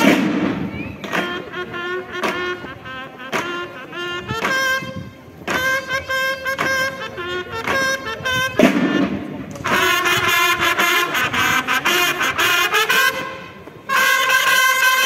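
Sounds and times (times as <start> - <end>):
bugles playing: 0.0 - 15.0
snare drum strokes: 0.0 - 15.0.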